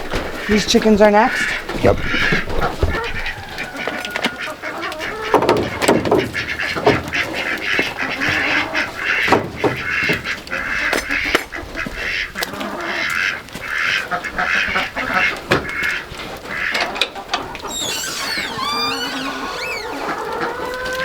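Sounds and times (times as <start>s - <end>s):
poultry calling: 0.1s - 21.0s.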